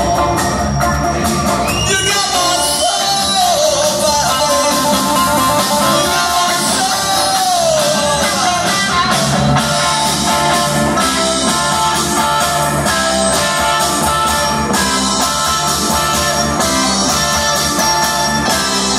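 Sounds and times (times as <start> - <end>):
live rock band playing: 0.0 - 18.9.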